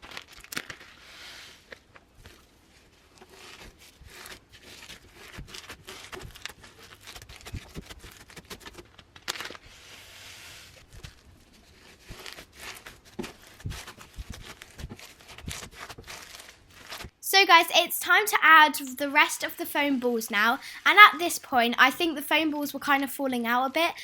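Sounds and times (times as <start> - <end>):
slime crackling and squelching: 0.0 - 24.0.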